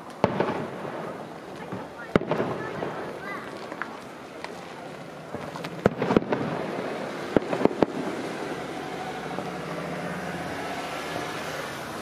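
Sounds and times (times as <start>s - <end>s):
fireworks bursting: 0.0s - 12.0s
steady background noise: 0.0s - 12.0s.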